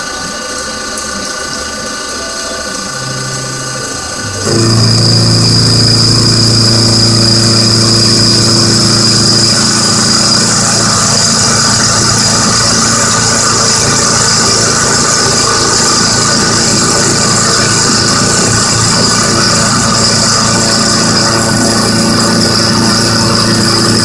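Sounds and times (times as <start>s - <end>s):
milling machine hum and whine: 0.0s - 24.0s.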